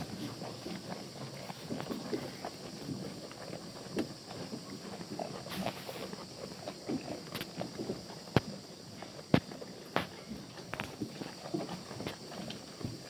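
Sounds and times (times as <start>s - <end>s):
goats munching hay: 0.0s - 13.0s.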